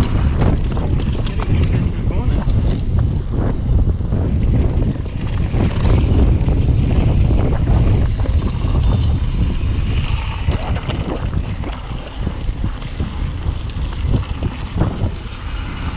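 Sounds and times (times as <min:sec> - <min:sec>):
bike clicks and rattles: 0:00.0 - 0:15.9
tyres rumbling on dirt: 0:00.0 - 0:15.9
wind buffeting microphone: 0:00.0 - 0:15.9.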